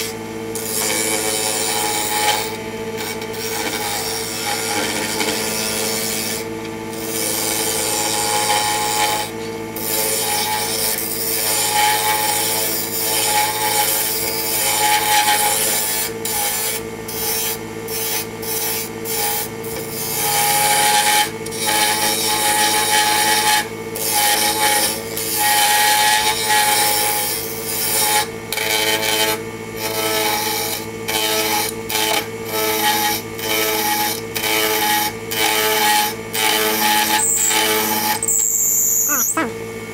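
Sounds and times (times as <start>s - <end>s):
lathe cutter scraping wood: 0.0s - 39.3s.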